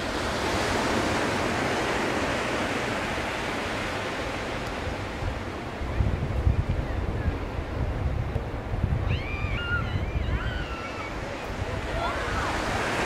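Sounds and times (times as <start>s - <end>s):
wave washing up the shore: 0.0s - 13.0s.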